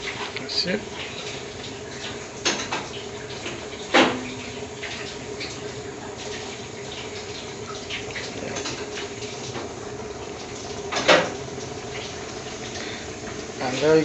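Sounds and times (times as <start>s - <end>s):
gas burner hissing: 0.0s - 14.0s.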